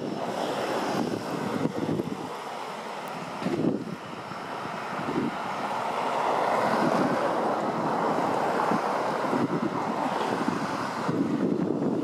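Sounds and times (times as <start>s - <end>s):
turboprop engine rushing: 0.0s - 12.0s
wind buffeting microphone: 0.0s - 12.0s.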